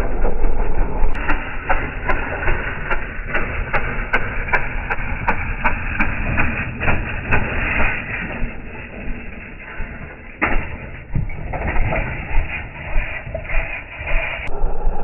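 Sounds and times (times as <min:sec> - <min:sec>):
motorbike engine rumbling and popping: 0:00.0 - 0:14.5.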